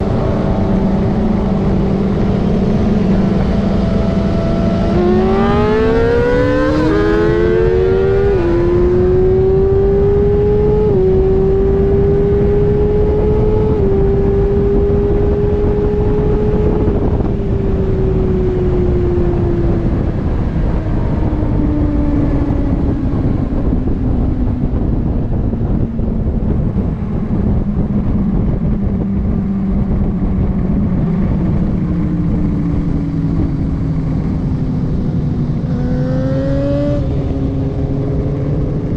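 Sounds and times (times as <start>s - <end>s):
motorcycle engine accelerating: 0.0s - 38.9s
wind rush on microphone: 0.0s - 38.9s.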